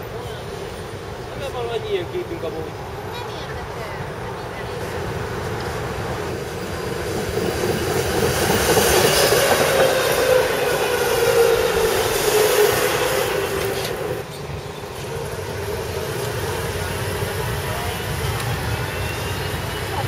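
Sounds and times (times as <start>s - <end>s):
tram wheels on rails: 0.0s - 20.0s
tram whine: 0.0s - 20.0s.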